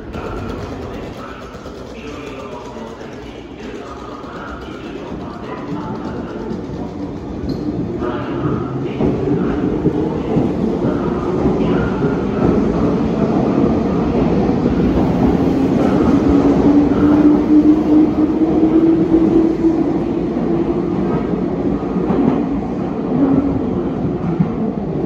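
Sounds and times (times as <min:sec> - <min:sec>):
train wheel rumble: 0:00.0 - 0:25.0.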